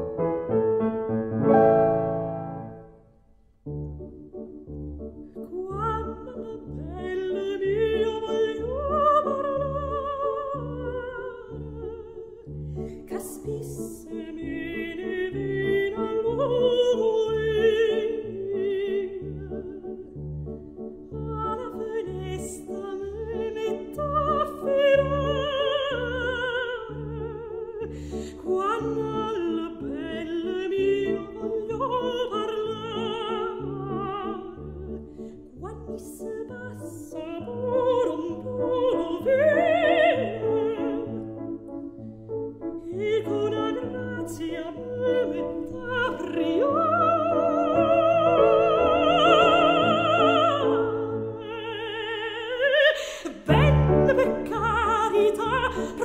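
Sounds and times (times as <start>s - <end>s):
opera-style solo singing: 5.4s - 20.1s, 21.2s - 41.6s, 42.8s - 56.0s.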